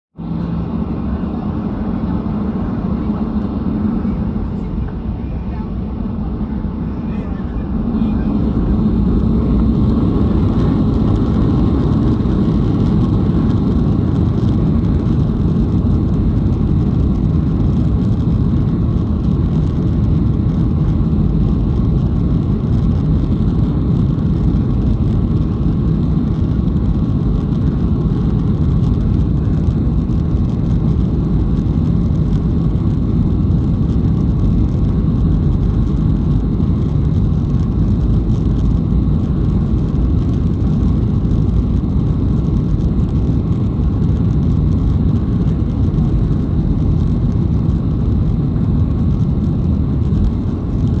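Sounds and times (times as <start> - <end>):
jet engines at takeoff thrust: 0.1 - 51.0.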